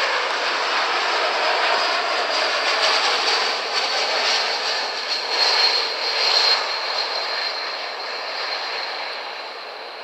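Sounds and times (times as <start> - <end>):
jet engines rushing and whining: 0.0 - 10.0.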